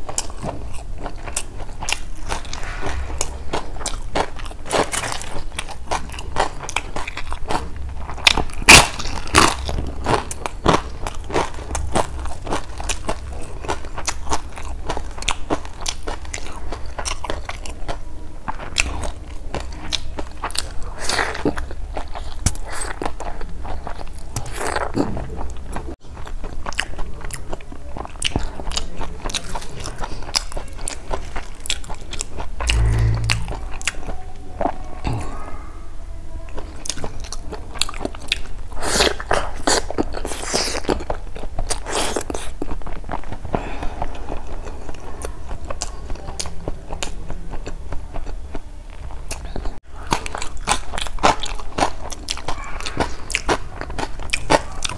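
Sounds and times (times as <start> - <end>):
person chewing food: 0.0 - 34.1, 36.6 - 54.9.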